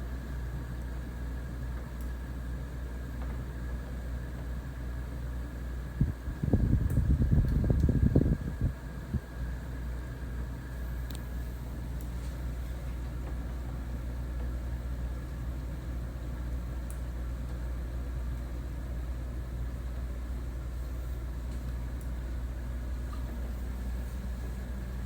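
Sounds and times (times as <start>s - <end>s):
air conditioner fan humming: 0.0s - 25.0s.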